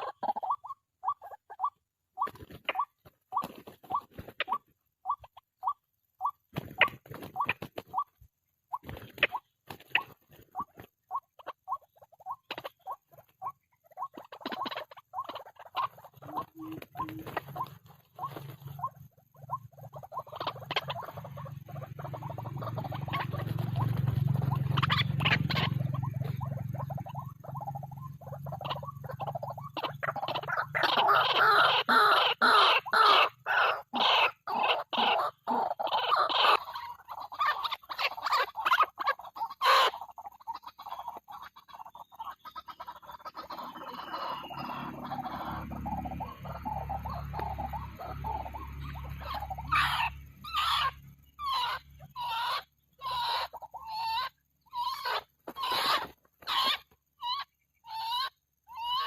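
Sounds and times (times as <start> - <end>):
waterhen croaking calls: 0.0 - 59.0.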